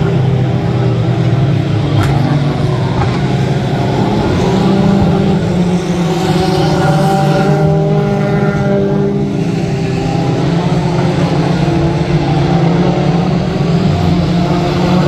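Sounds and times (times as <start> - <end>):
truck engines racing: 0.0 - 15.0.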